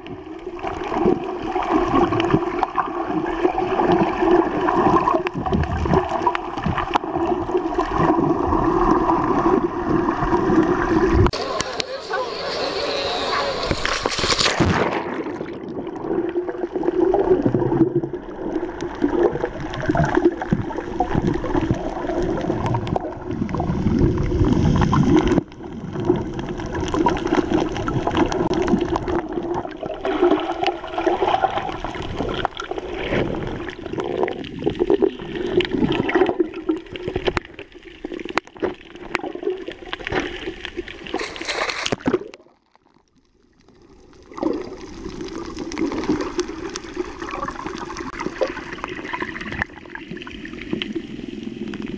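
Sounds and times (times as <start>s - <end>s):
muffled underwater water sloshing: 0.0s - 51.9s.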